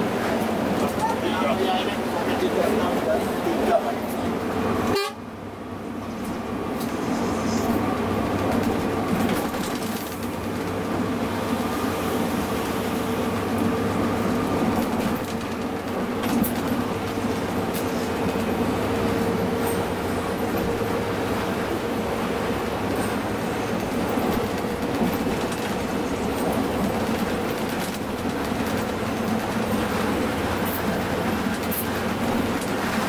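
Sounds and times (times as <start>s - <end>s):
coach engine drone: 0.0s - 33.0s
road noise: 0.0s - 33.0s.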